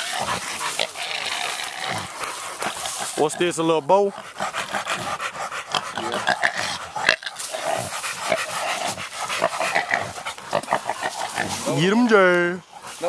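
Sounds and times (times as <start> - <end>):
dog panting hard: 0.0 - 13.0.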